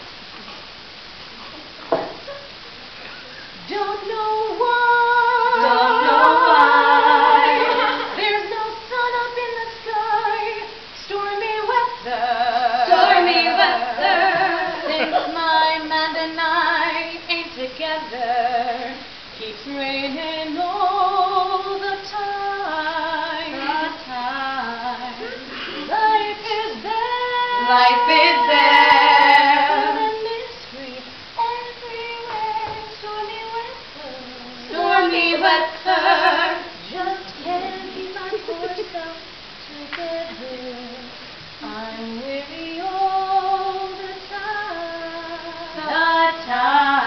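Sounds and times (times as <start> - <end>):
woman singing with vibrato: 3.5 - 47.0.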